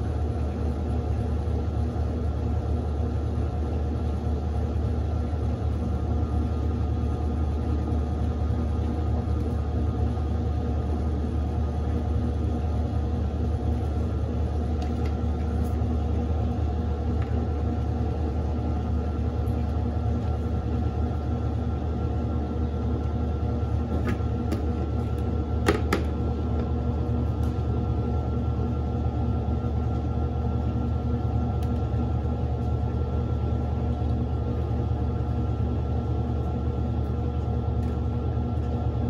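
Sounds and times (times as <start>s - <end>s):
washing machine spinning: 0.0s - 39.0s.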